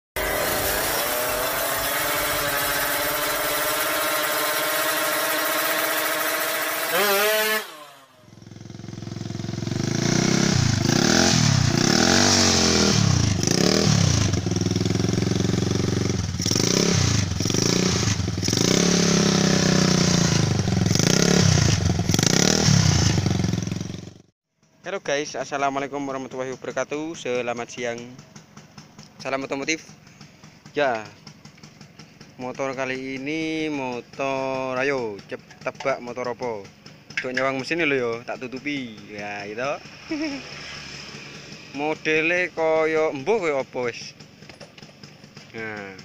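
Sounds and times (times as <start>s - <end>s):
motorcycle engine revving: 0.2s - 24.3s, 25.7s - 46.0s.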